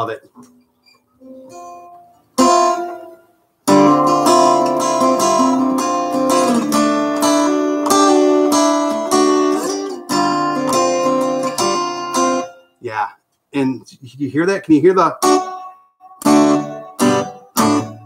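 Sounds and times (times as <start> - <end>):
acoustic guitar strumming: 0.6 - 12.8, 15.2 - 18.0.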